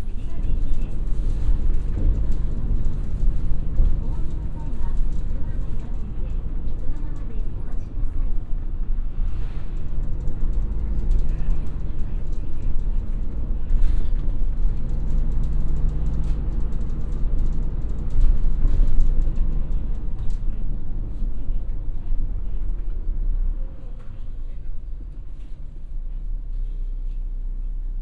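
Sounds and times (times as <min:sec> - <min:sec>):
bus body rattles and creaks: 0:00.0 - 0:28.0
bus engine and road drone: 0:00.0 - 0:28.0.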